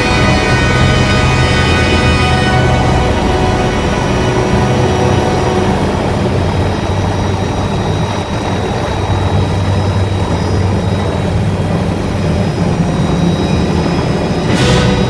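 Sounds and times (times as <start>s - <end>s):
helicopter rotor and engine drone: 0.0s - 14.9s
faint high whine: 0.0s - 15.0s.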